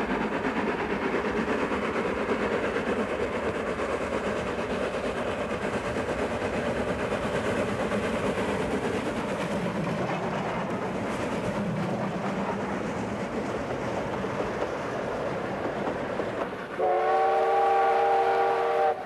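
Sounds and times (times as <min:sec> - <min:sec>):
steam locomotive hauling train: 0:00.0 - 0:19.0.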